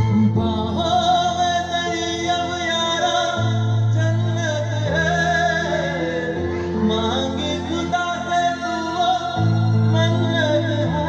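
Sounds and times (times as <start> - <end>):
bass line holding long notes: 0.0 - 11.0
person singing over loudspeakers: 0.0 - 11.0.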